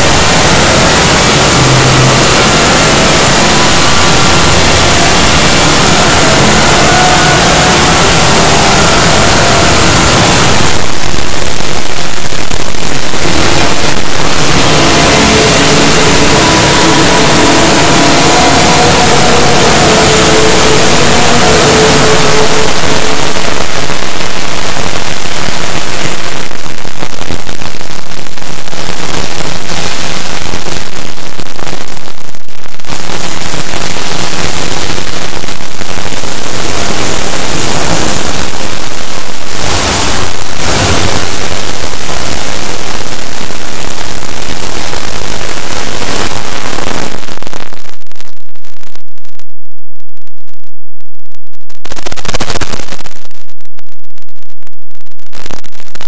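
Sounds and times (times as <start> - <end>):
loud distorted static noise: 0.0 - 56.0.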